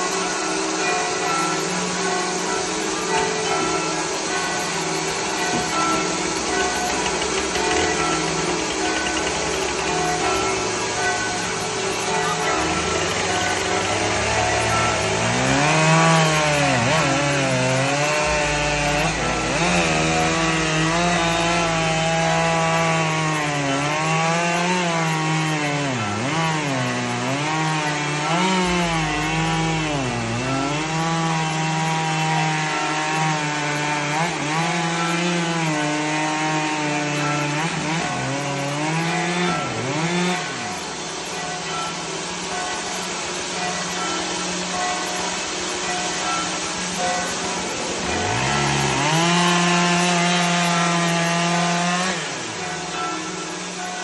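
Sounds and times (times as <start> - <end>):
saw hissing through wood: 0.0 - 54.0
sawmill engine under load: 0.0 - 54.0.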